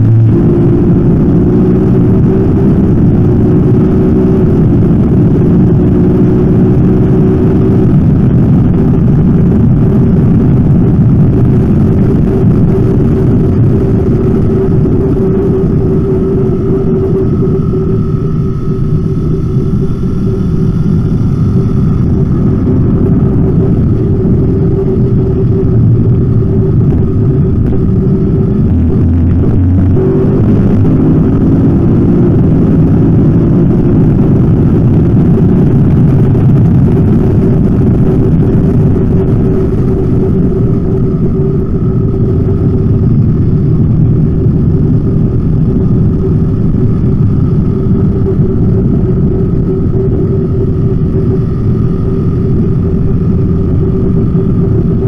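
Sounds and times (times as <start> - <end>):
heavy wind rush: 0.0 - 55.0
motorcycle engine revving: 0.0 - 55.0.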